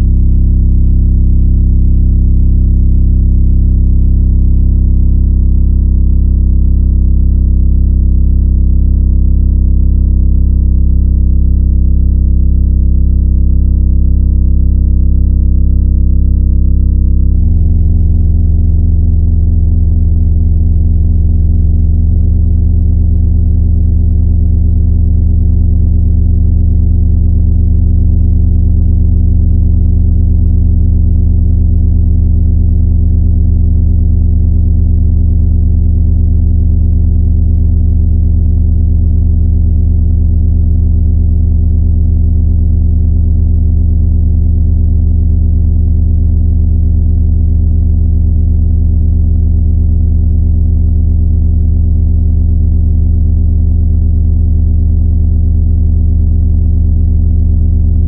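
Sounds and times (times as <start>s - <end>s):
low electronic drone: 0.0s - 56.4s.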